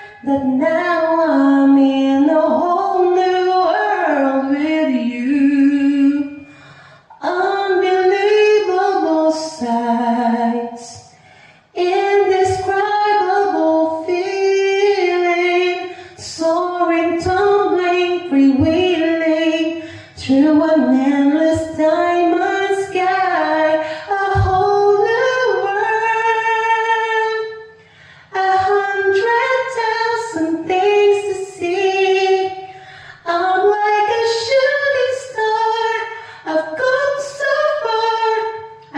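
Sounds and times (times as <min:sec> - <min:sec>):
person singing a cappella: 0:00.0 - 0:38.9.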